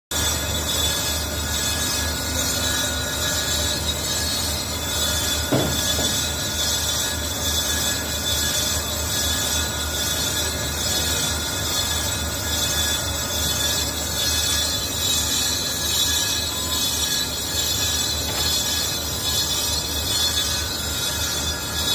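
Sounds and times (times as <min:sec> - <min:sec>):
high-pitched metallic cutting noise: 0:00.1 - 0:21.9
lathe humming: 0:00.1 - 0:21.9.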